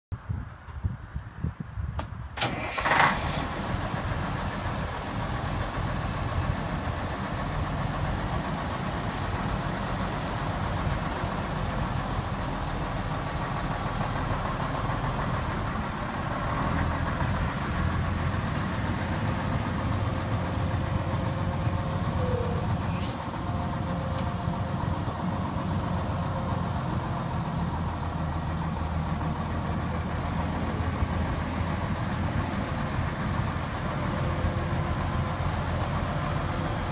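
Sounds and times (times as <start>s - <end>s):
fire truck engine idling: 3.4s - 36.9s.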